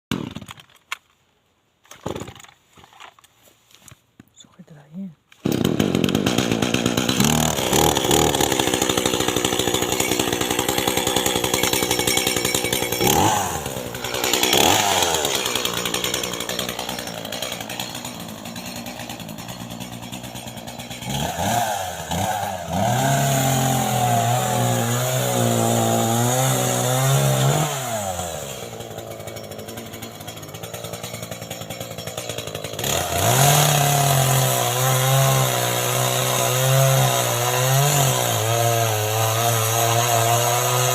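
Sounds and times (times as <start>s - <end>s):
chainsaw cutting: 4.7s - 40.9s.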